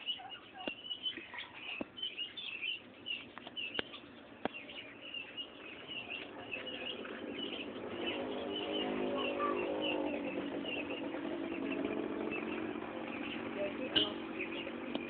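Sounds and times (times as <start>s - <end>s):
small birds chirping: 0.0s - 15.0s
motor engine hum: 0.7s - 15.0s.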